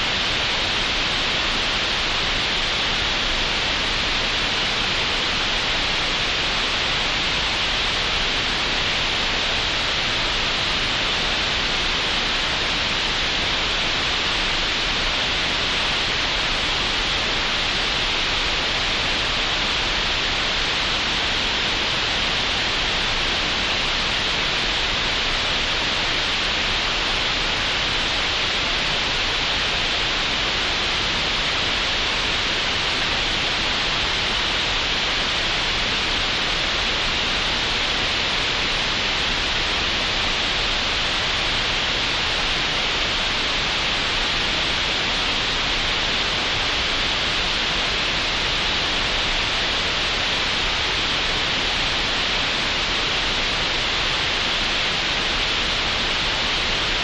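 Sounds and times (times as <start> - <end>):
steady green noise hiss: 0.0 - 57.0.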